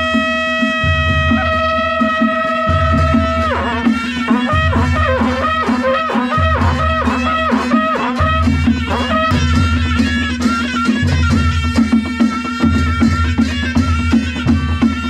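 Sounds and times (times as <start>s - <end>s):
horn playing a melody: 0.0s - 15.0s
low drum beat: 0.0s - 15.0s
wedding band music: 0.0s - 15.0s.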